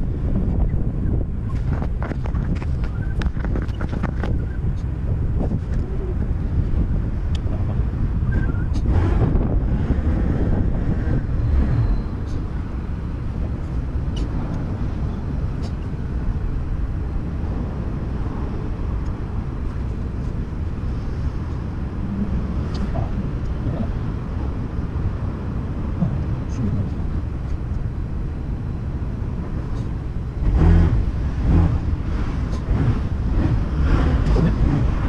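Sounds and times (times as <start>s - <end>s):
scooter engine and road rumble: 0.0s - 35.0s
wind on microphone: 0.0s - 35.0s.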